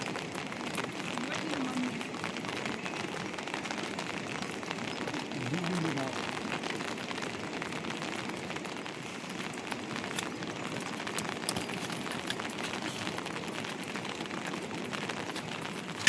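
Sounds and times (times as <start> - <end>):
heavy rain hissing: 0.0 - 16.0
raindrop ticks: 0.0 - 16.0.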